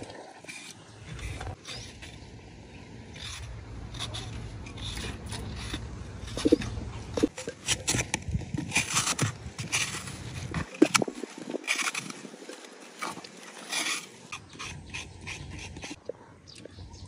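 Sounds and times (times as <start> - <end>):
coconut scraping rasps: 0.5 - 2.3, 3.1 - 16.0.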